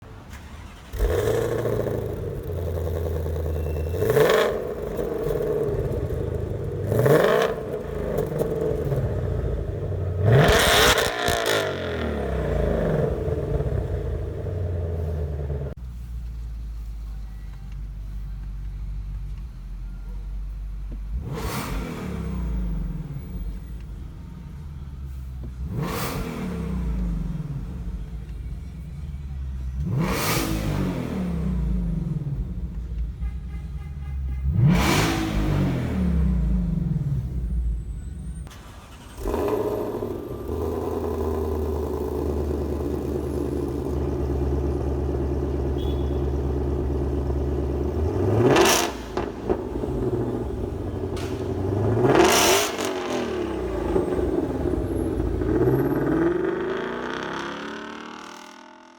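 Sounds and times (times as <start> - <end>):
car engine revving: 0.0 - 15.8, 20.9 - 33.2, 34.4 - 58.9
car engine running steadily: 0.0 - 57.4.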